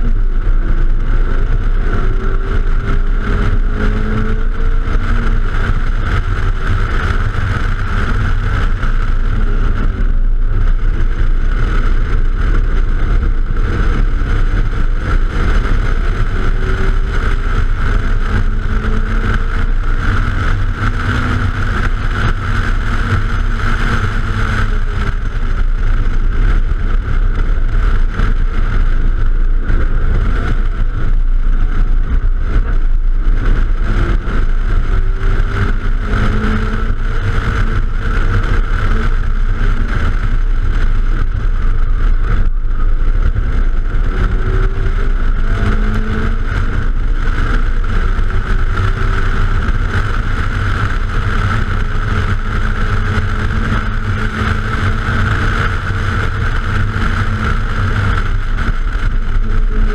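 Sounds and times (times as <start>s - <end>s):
car engine revving: 0.0s - 59.9s
wind rush on microphone: 0.0s - 59.9s.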